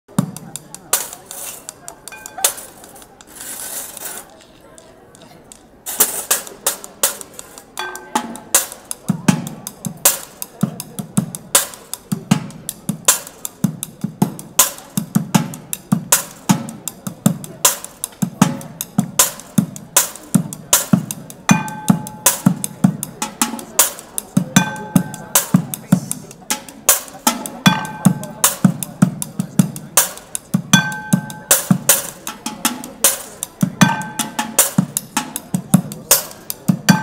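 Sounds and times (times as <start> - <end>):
drumming on metal and buckets: 0.1 - 3.2, 5.8 - 37.0.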